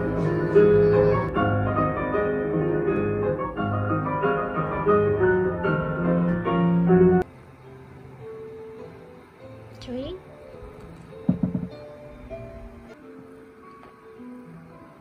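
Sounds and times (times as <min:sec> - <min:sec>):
grand piano classical piece: 0:00.0 - 0:15.0.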